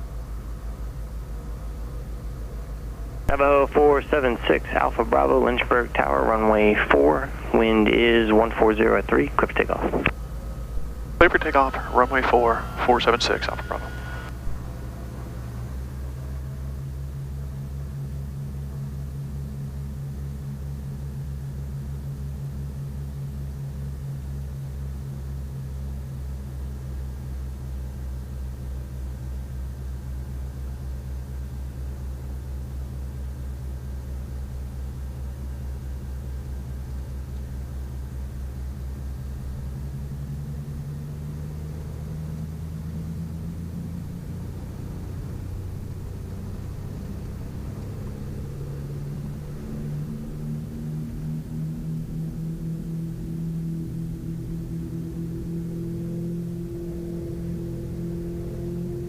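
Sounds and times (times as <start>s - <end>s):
twin piston engines droning: 0.0s - 59.0s.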